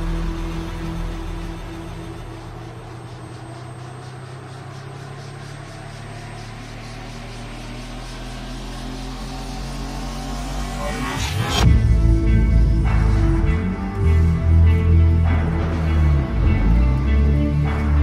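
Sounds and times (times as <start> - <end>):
background music with held low notes: 0.0 - 18.0.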